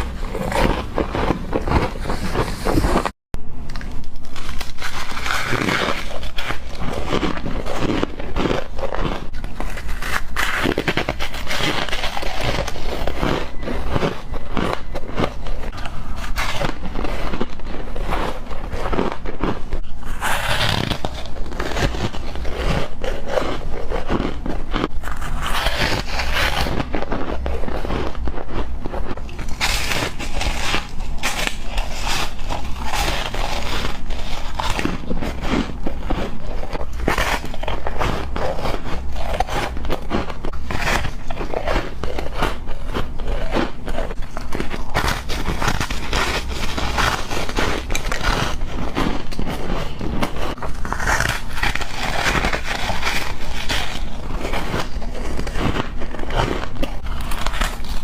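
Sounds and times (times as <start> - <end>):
ice being chewed crunching: 0.0 - 58.0.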